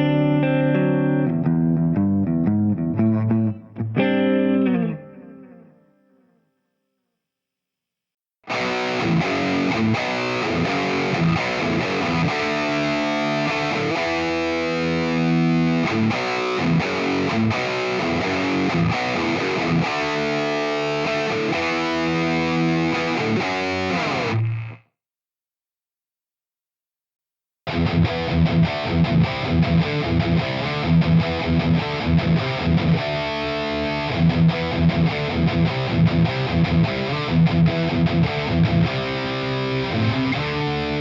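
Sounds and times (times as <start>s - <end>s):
distorted electric guitar riff: 0.0s - 5.9s, 8.4s - 24.9s, 27.7s - 41.0s.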